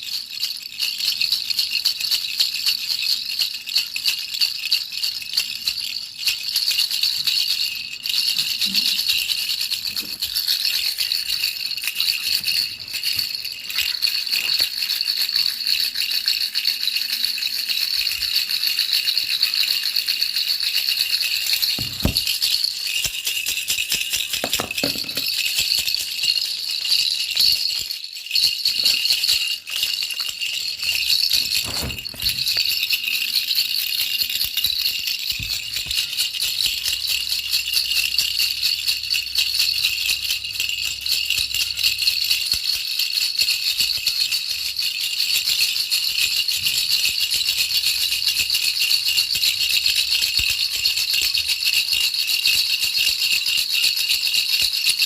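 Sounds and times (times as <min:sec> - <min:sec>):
baby's rattle shaken: 0:00.0 - 0:55.0.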